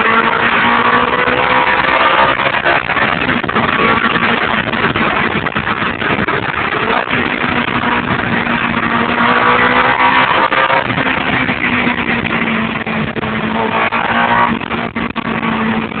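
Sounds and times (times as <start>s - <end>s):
car engine running hard: 0.0s - 16.0s
road and wind noise: 0.0s - 16.0s.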